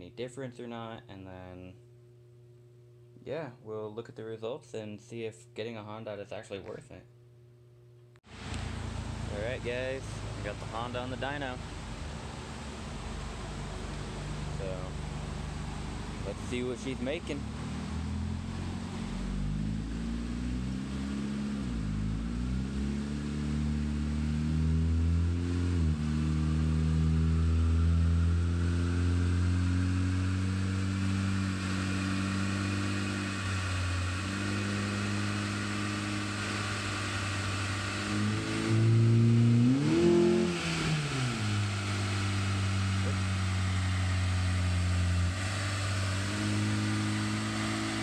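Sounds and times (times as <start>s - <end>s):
car engine revving: 8.3s - 48.0s.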